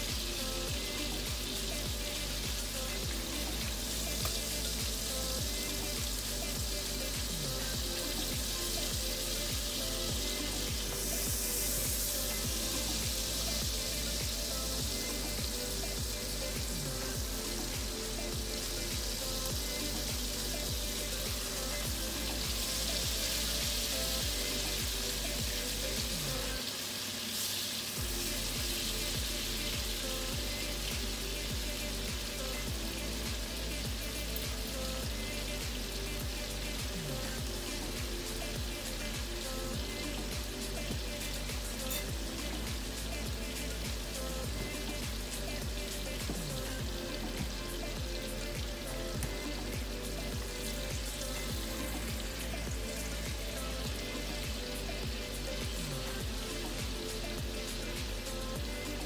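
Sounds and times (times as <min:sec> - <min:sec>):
background music with beat: 0:00.0 - 0:26.8, 0:27.9 - 0:59.0
meat sizzling in frying pan: 0:00.0 - 0:59.0.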